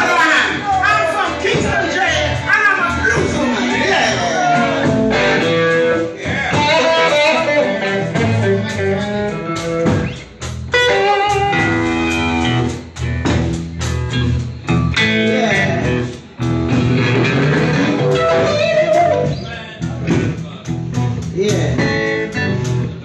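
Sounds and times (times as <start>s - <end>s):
electric guitar: 0.0s - 23.0s
live blues band playing: 0.0s - 23.0s.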